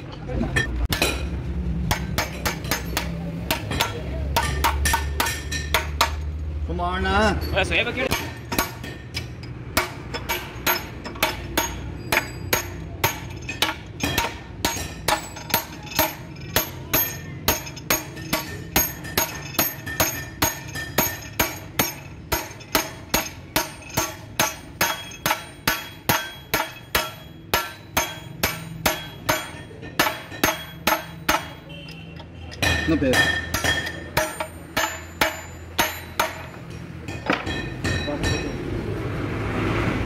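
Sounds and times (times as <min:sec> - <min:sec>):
hammer striking metal: 0:00.6 - 0:06.4, 0:07.5 - 0:38.8.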